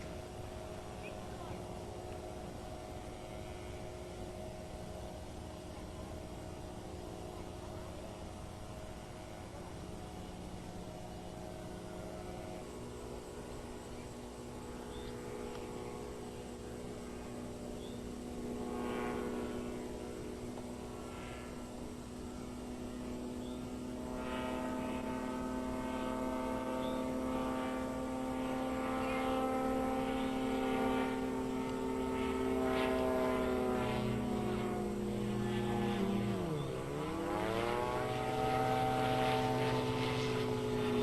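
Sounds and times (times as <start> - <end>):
propeller airplane engine droning: 0.0 - 41.0.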